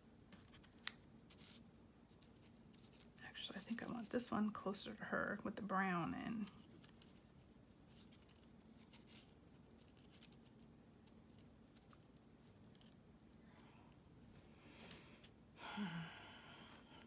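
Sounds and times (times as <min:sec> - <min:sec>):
rustling of yarn and paper: 0:00.2 - 0:15.4.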